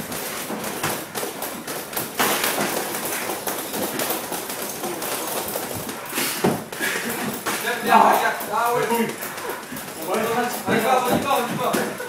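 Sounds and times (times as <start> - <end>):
footfalls on wooden floor: 0.0 - 12.0.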